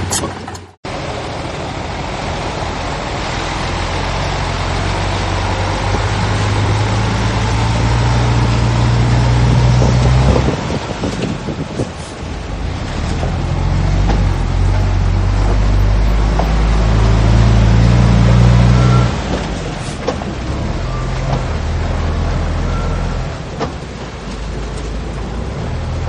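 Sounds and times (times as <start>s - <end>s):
heavy diesel engine droning: 0.0s - 26.0s.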